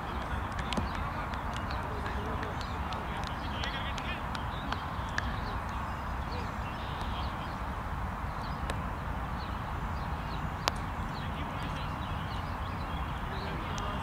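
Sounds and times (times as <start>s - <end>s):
field ambient noise: 0.0s - 14.0s.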